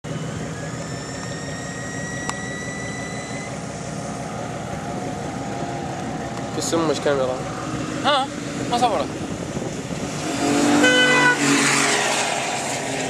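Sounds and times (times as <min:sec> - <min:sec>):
vehicle engine running with whine: 0:00.0 - 0:13.0.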